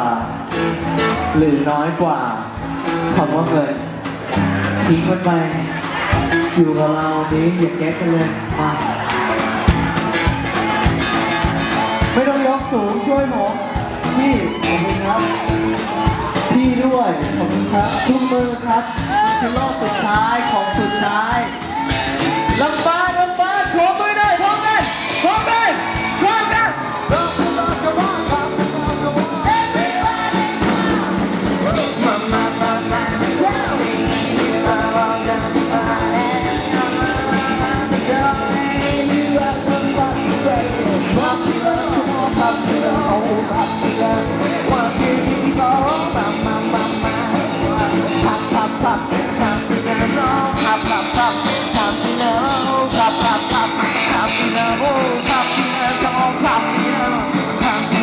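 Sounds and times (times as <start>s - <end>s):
live rock band playing: 0.0s - 58.0s
drum kit steady beat: 2.4s - 58.0s
person singing lead vocal: 4.4s - 58.0s.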